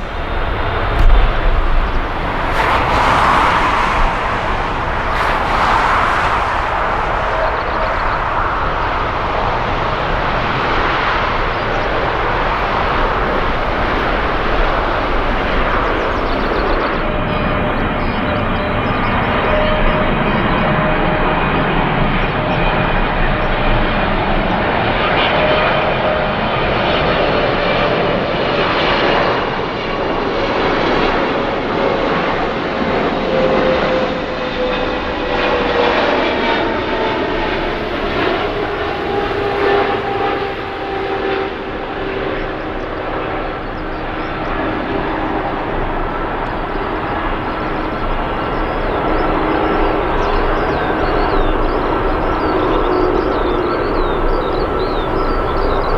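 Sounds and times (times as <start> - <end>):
jet engines running with whine: 0.0 - 55.9.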